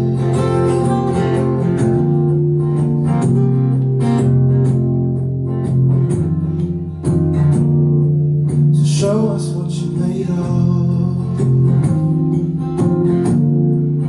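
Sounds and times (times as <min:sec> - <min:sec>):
acoustic guitar plucked chords: 0:00.0 - 0:14.0.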